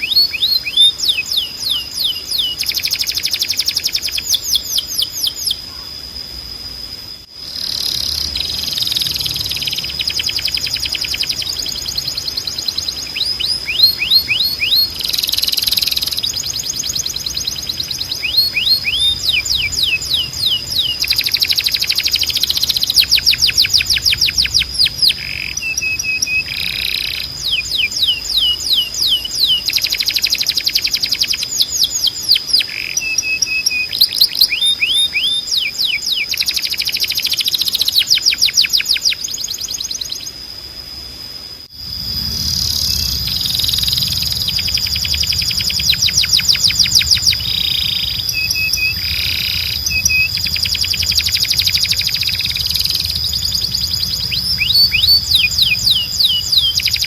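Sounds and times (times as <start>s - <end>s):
canary singing trills: 0.0s - 6.1s, 7.1s - 40.4s, 41.7s - 57.0s.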